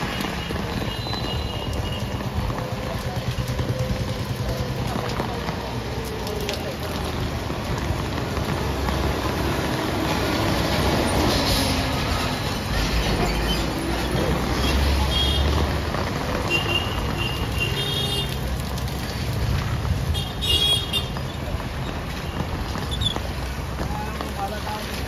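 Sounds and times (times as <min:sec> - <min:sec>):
motorcycles passing: 0:00.0 - 0:25.0.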